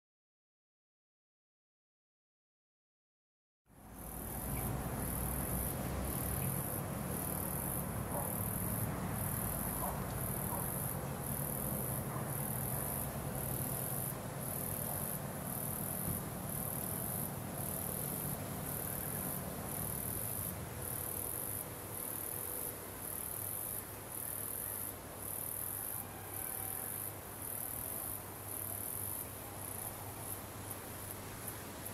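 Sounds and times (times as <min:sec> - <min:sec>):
insects chirping: 0:03.8 - 0:31.9.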